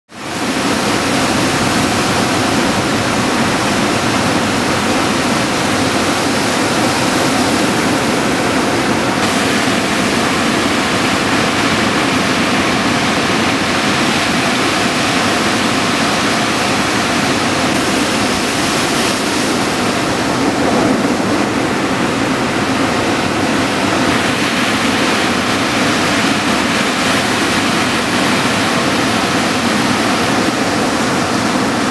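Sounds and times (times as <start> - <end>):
heavy breaking surf: 0.1 - 31.9.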